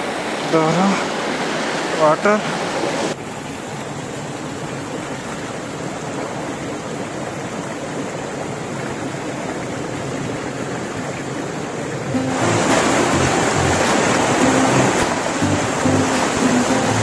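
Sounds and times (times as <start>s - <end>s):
waterfall rushing: 0.0s - 8.1s, 11.4s - 17.0s.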